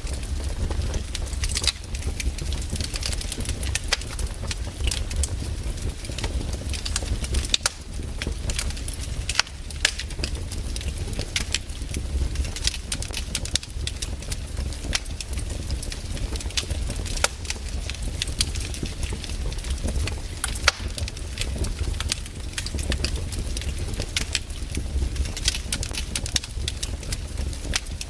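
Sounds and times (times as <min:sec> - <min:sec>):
campfire crackling: 0:00.0 - 0:28.0
low steady rumble: 0:00.0 - 0:28.0.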